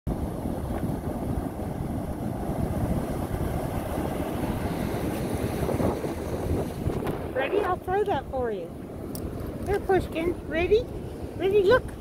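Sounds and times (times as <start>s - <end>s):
ocean surf breaking: 0.1s - 12.0s
wind rumbling on microphone: 0.1s - 12.0s.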